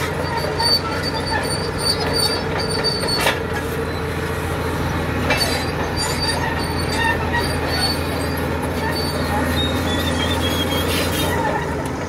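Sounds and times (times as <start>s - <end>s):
diesel engine under load: 0.0s - 12.0s
steel tracks squealing: 0.0s - 12.0s.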